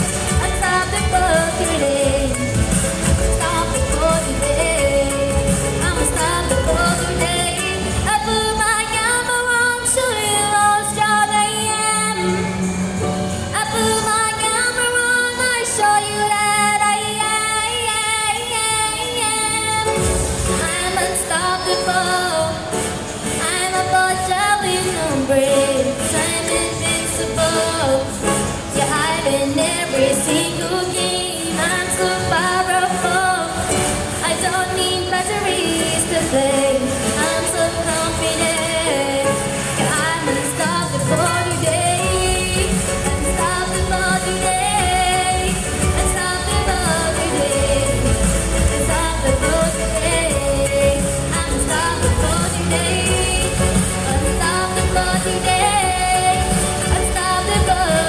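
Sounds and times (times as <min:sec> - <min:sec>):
backing music: 0:00.0 - 0:16.8, 0:19.8 - 0:58.0
woman singing: 0:00.0 - 0:58.0.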